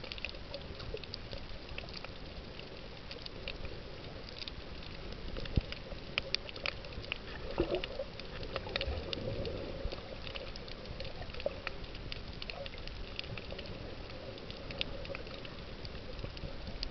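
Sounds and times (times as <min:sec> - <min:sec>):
underwater clicks and crackles: 0:00.0 - 0:16.9.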